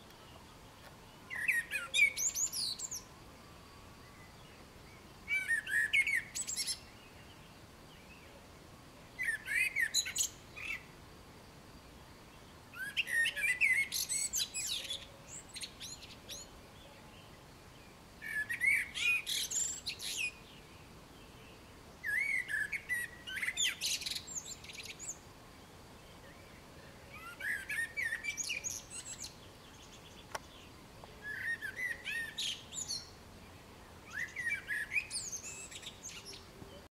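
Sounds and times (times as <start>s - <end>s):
blackbird singing: 0.0s - 3.1s, 4.0s - 8.4s, 9.1s - 10.9s, 12.4s - 25.2s, 26.0s - 36.9s.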